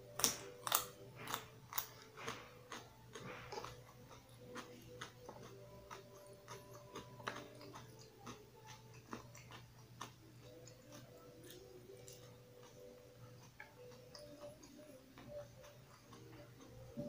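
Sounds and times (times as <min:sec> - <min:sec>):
faint low hum: 0:00.0 - 0:17.0
soft chewing: 0:00.0 - 0:17.0.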